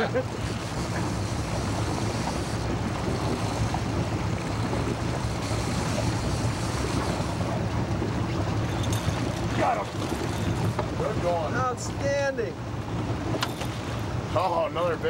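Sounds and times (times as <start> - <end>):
boat engine humming: 0.0 - 15.0
waves washing: 0.0 - 15.0.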